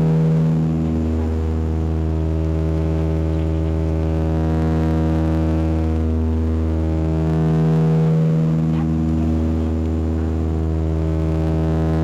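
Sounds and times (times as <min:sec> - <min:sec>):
propeller engine drone in cabin: 0:00.0 - 0:12.0.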